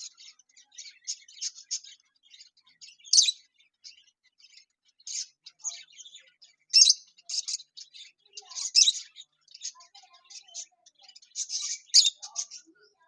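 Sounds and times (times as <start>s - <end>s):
birds chirping and chattering: 0.0s - 13.0s.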